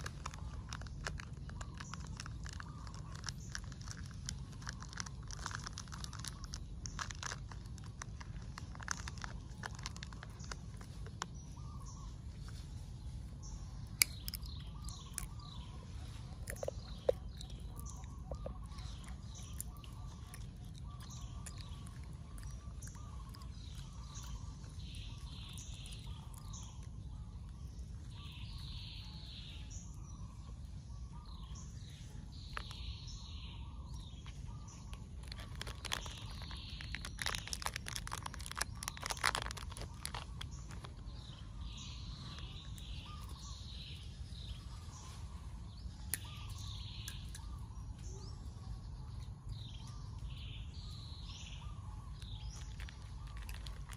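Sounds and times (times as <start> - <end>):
sharp clicks and crackles: 0.0 - 12.6, 13.8 - 29.7, 33.9 - 44.5, 45.9 - 48.5, 51.9 - 53.9
birds chirping: 0.0 - 53.9
low steady rumble: 0.0 - 53.9.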